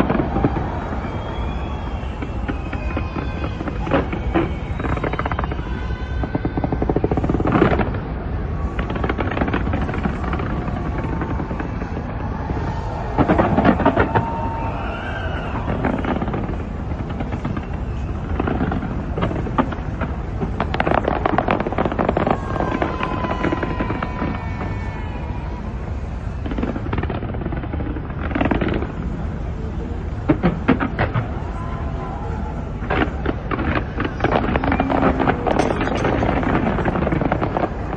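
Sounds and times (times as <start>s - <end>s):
fireworks bangs and crackling: 0.0s - 37.9s.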